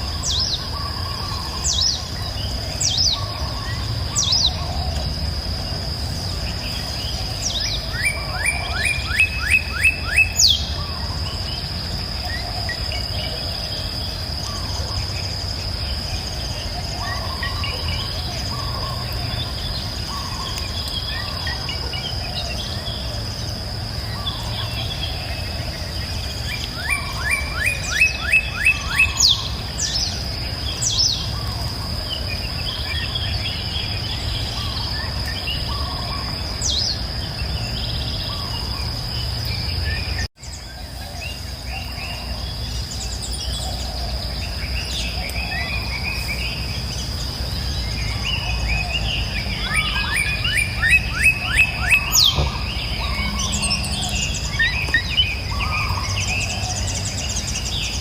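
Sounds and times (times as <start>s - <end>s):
high insect drone: 0.0s - 58.0s
songbirds singing: 0.0s - 58.0s.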